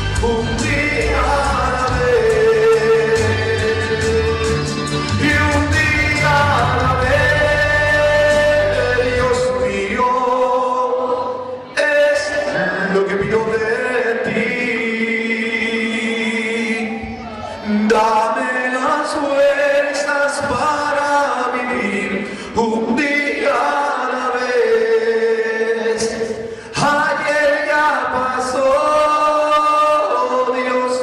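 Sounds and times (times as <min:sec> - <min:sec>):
congregation singing a worship song: 0:00.0 - 0:31.0.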